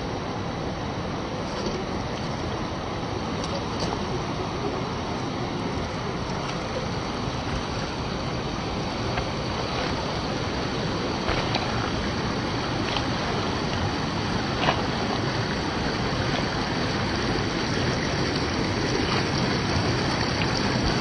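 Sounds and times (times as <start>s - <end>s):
waterfall rushing: 2.0s - 21.0s.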